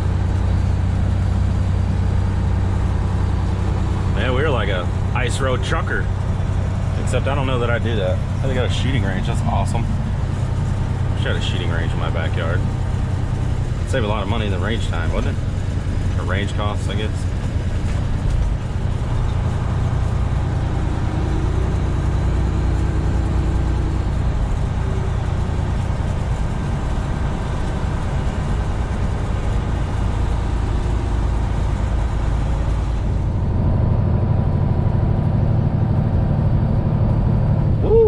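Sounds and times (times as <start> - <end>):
diesel truck engine drone: 0.0 - 38.0
road noise: 0.0 - 38.0.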